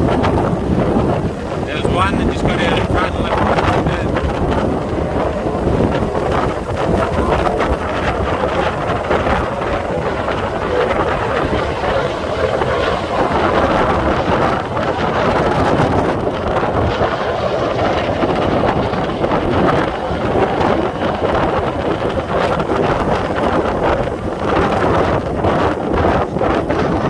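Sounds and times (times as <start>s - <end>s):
distant powerboats droning: 0.0s - 27.0s
wind buffeting microphone: 0.0s - 27.0s.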